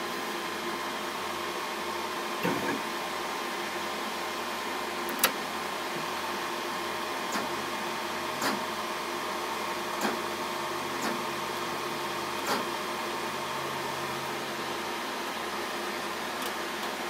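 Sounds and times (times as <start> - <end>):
fans humming: 0.0 - 17.0.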